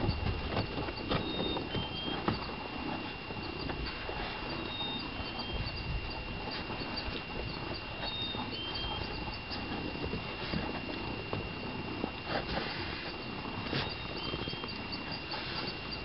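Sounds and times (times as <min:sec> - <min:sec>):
faint high whine: 0:00.0 - 0:16.0
small irregular ticks: 0:00.0 - 0:16.0.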